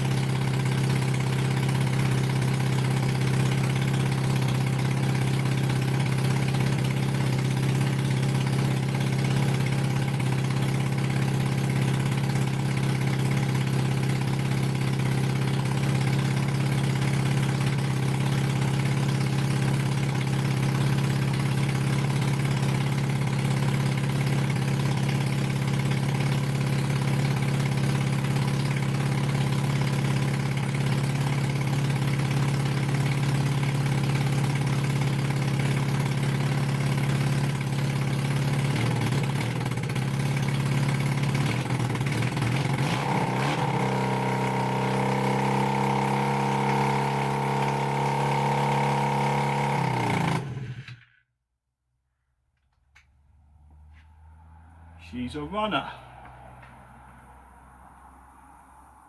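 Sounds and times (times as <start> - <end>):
motorcycle engine idling: 0.0 - 51.1.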